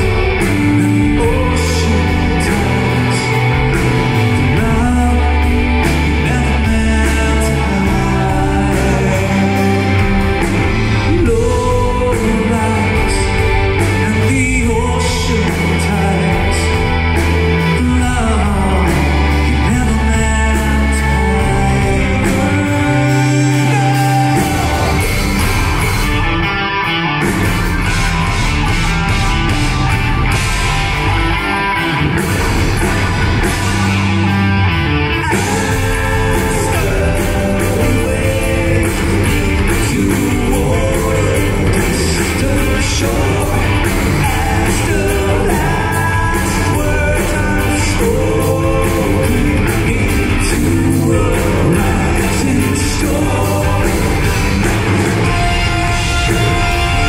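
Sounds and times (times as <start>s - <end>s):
person singing: 0.0s - 25.9s, 32.5s - 57.0s
bass: 0.0s - 57.0s
drums: 0.0s - 57.0s
electric guitars: 0.0s - 57.0s
keyboards: 0.0s - 57.0s.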